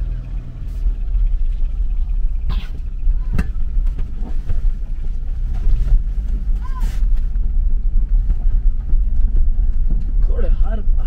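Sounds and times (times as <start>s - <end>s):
vehicle rumbling along road: 0.0s - 11.0s.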